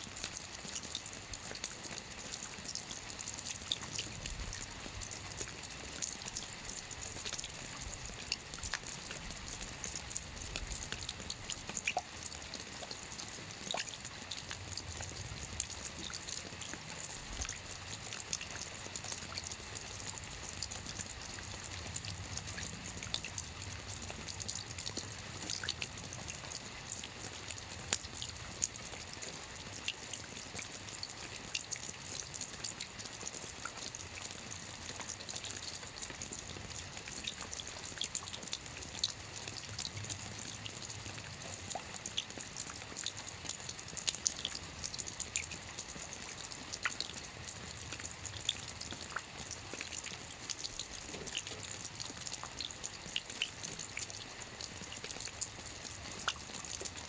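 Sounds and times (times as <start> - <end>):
raindrops dripping: 0.0 - 57.0
steady rain: 0.0 - 57.0.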